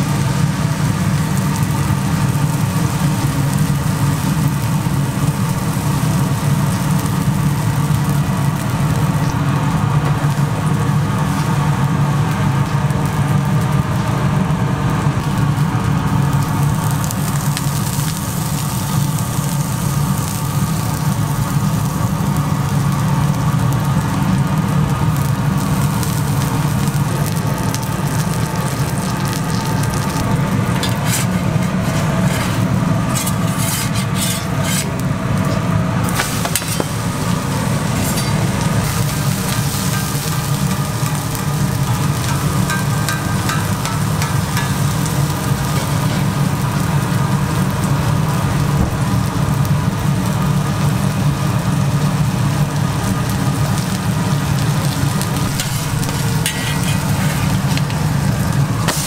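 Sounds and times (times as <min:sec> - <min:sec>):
low hum: 0:00.0 - 0:50.1
batter sizzling on a griddle: 0:00.0 - 0:59.0.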